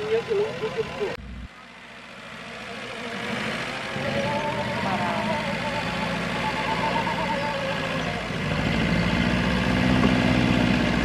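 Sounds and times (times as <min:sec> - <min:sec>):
car engine running slowly: 0:00.0 - 0:11.0.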